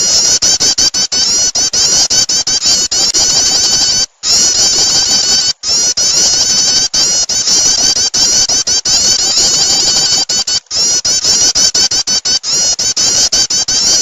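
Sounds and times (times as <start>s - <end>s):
bird high chirping notes: 0.0s - 14.0s.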